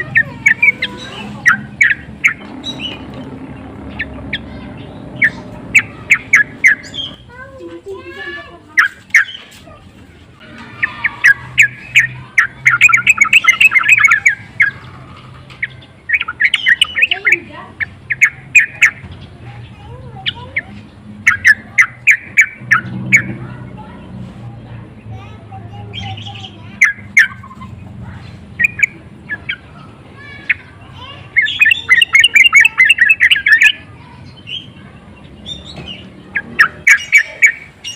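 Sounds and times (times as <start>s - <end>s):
bird chattering calls: 0.0s - 9.8s, 10.4s - 24.1s, 24.9s - 37.9s.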